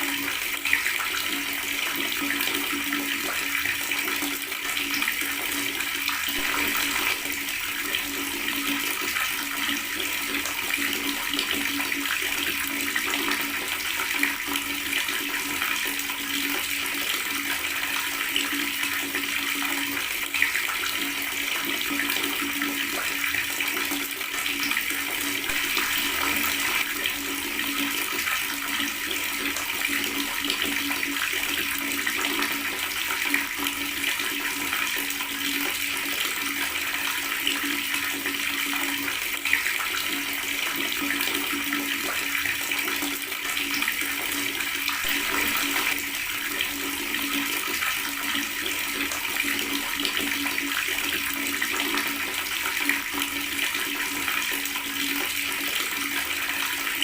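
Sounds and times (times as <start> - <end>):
tap water running and gurgling: 0.0 - 57.0.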